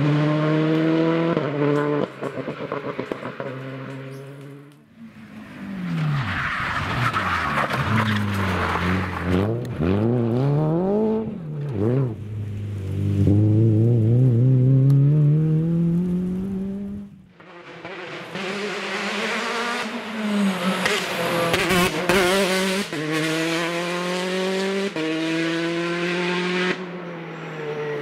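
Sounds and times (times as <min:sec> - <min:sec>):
rally car engine at full throttle: 0:00.0 - 0:28.0.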